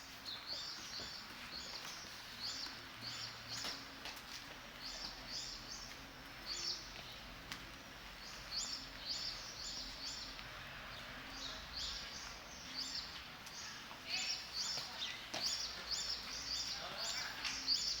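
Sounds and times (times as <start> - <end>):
outdoor street ambience: 0.0 - 18.0.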